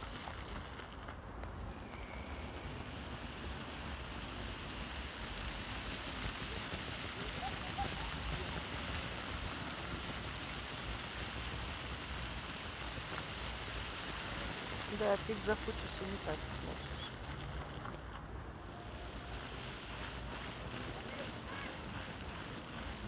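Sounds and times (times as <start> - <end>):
fountain water splashing on paving: 0.0 - 23.0.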